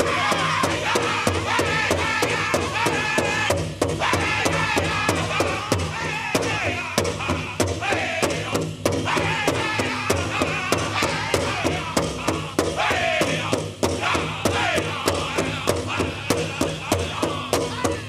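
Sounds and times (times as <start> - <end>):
big drum steady fast beat: 0.0 - 18.0
drum group singing: 0.0 - 18.0.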